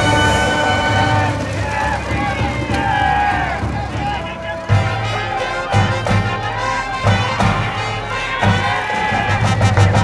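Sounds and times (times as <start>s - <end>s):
brass band playing: 0.0s - 10.0s
drum beat: 0.0s - 10.0s.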